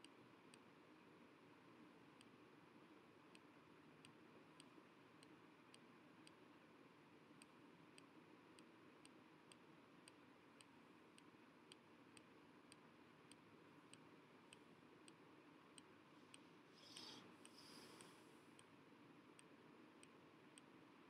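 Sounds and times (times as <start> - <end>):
low hiss: 0.0 - 21.0
faint ticks: 2.0 - 6.6, 7.3 - 21.0.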